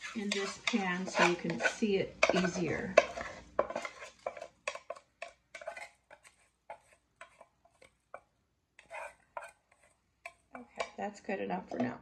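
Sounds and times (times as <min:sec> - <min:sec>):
wooden spoon scraping metal pot: 0:00.0 - 0:12.0.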